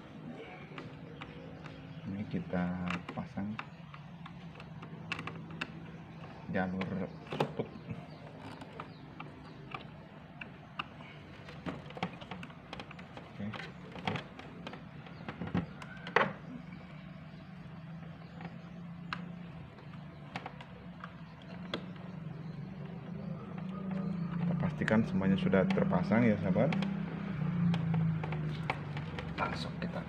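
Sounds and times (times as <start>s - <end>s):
clicks and knocks of plastic parts: 0.1s - 30.0s.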